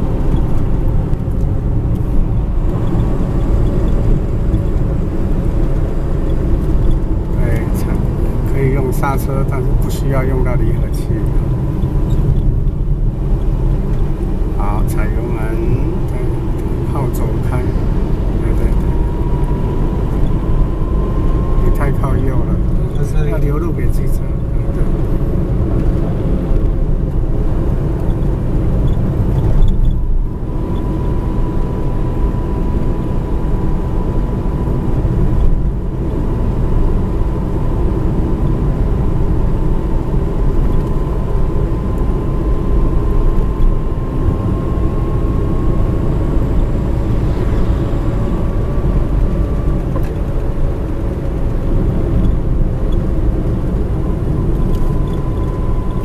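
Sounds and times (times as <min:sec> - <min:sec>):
car engine and tyre rumble: 0:00.0 - 0:56.0
faint whine: 0:00.0 - 0:56.0.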